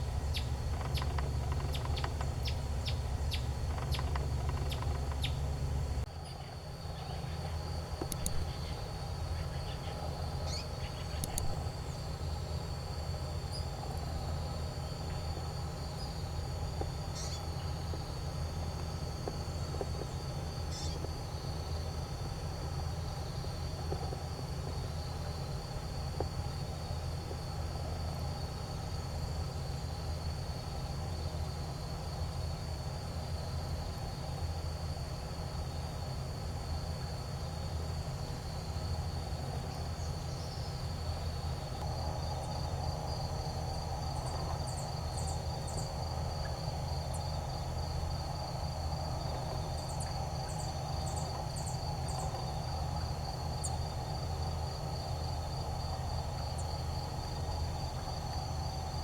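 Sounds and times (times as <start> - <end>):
high insect trill: 0.0 - 59.0.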